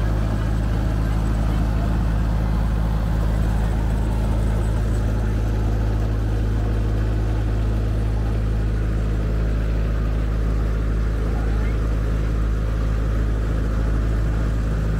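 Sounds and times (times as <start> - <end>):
locomotive engine idling: 0.0 - 14.9.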